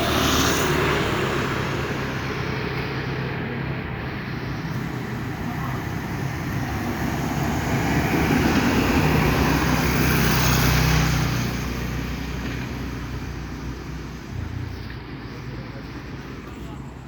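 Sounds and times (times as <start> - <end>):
vehicle passing by: 0.0 - 16.5.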